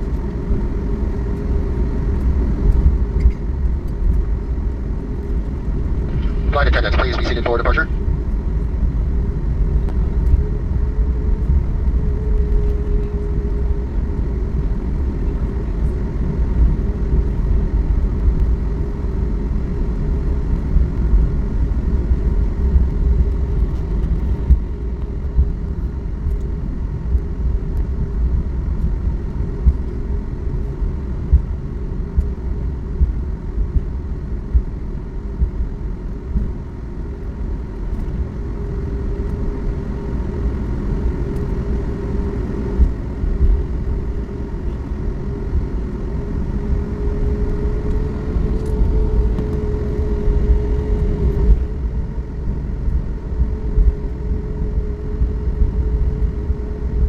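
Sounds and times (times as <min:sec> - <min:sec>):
jet cabin rumble: 0:00.0 - 0:57.0.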